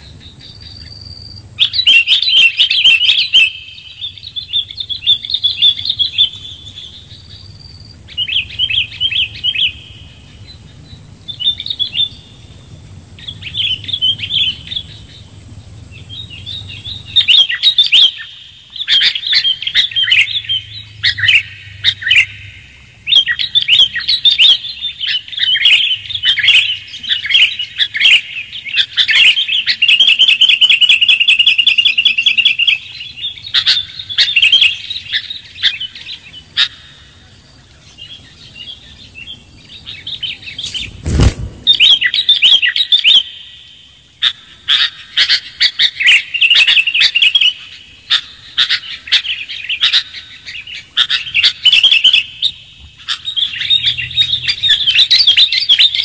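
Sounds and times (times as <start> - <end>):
bulbul chattering song: 0.0 - 56.0.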